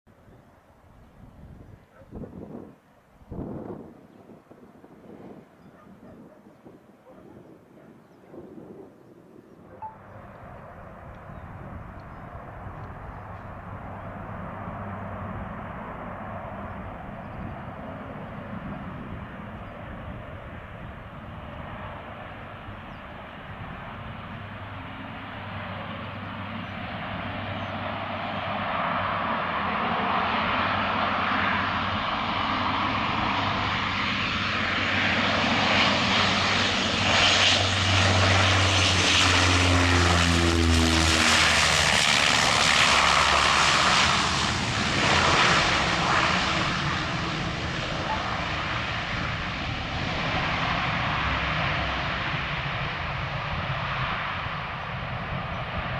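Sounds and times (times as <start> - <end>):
turboprop airliner engines humming: 0.1 - 55.9.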